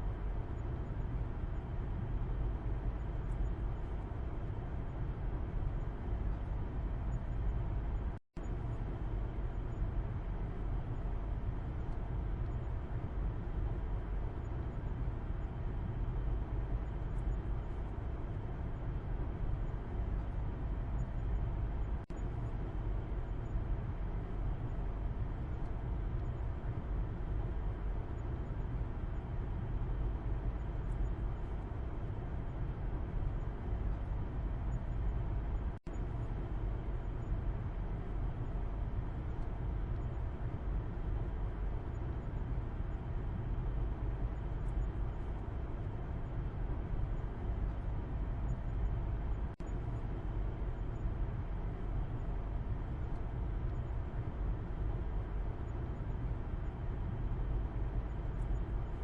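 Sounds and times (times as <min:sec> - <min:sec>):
low rumble of tyres and engine: 0:00.0 - 0:59.0.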